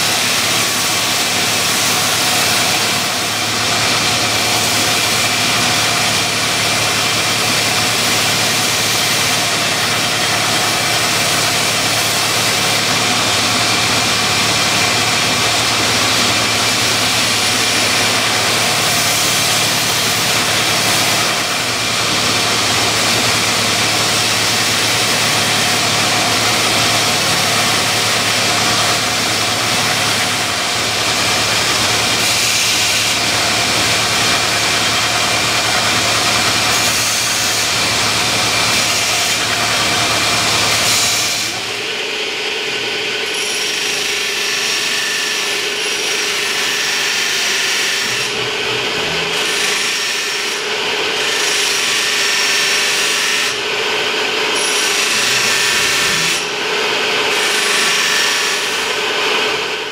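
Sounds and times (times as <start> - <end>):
belt grinder grinding steel: 0.0 - 41.9, 43.2 - 59.8.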